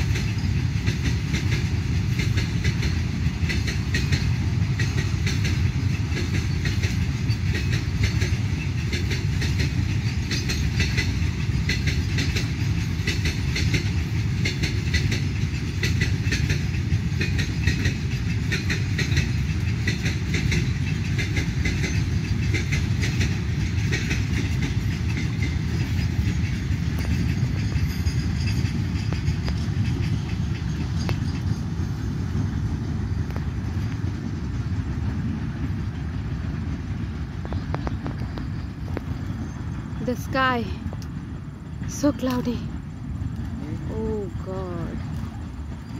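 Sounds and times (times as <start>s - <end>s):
freight train wheels rumbling: 0.0s - 45.9s
wheels clicking over rail joints: 0.0s - 45.9s.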